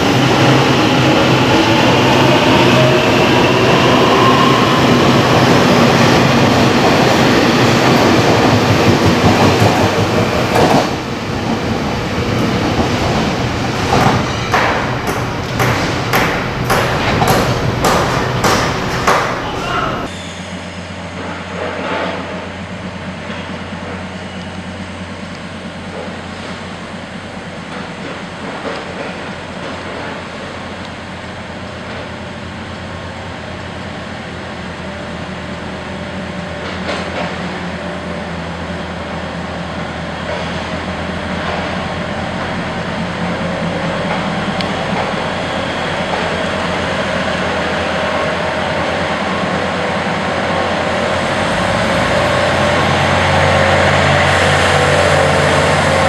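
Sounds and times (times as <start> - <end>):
diesel train engines running: 0.0 - 56.0.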